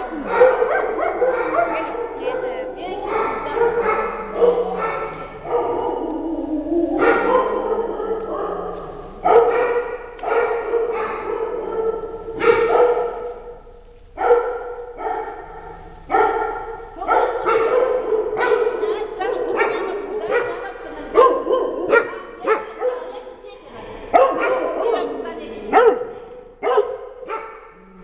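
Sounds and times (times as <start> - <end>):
dogs barking and yelping: 0.0 - 13.5, 14.2 - 23.3, 24.1 - 27.8.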